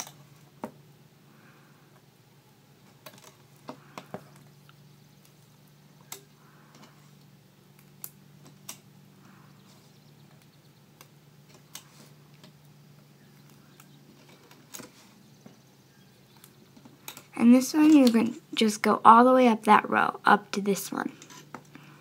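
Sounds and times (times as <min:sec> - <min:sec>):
faint steady low hum: 0:00.0 - 0:22.0.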